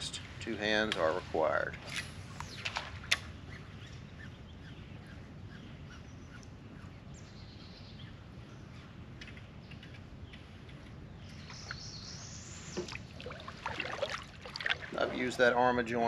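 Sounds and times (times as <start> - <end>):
outdoor background hiss: 0.0 - 16.0
small birds chirping: 2.2 - 16.0.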